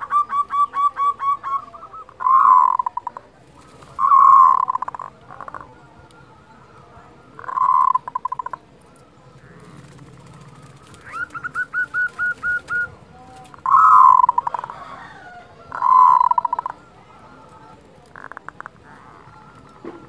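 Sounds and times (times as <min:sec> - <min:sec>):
dove cooing: 0:00.0 - 0:06.1, 0:07.2 - 0:20.0.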